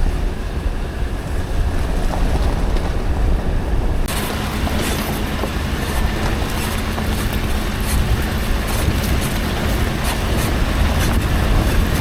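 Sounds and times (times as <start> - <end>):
vehicle driving on gravel: 0.0 - 12.0
wind buffeting microphone: 0.0 - 12.0.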